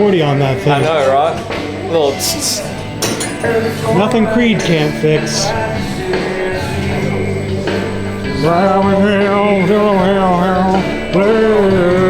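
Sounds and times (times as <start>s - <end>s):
man singing over backing track: 0.0s - 12.0s.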